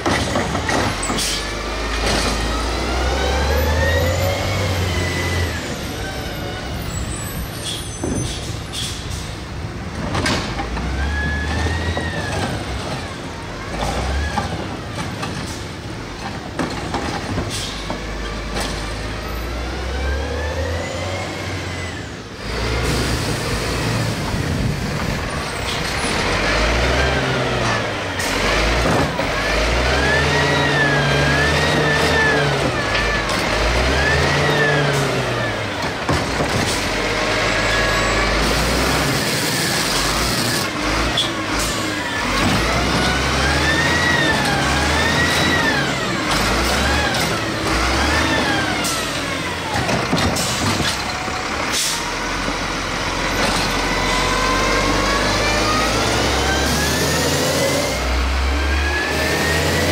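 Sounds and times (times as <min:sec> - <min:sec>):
truck engine revving: 0:00.0 - 0:07.7, 0:09.2 - 0:59.9.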